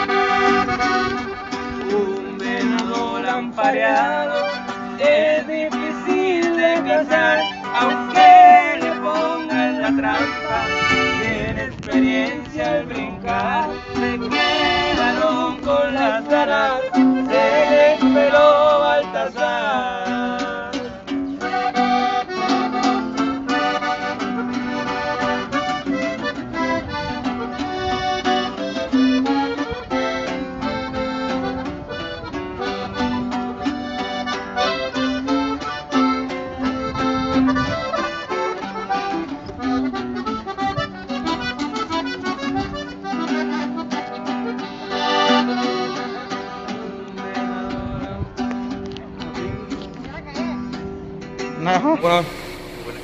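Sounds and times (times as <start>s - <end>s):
accordion melody: 0.0s - 47.5s, 51.3s - 53.0s
strummed guitar: 0.0s - 53.0s.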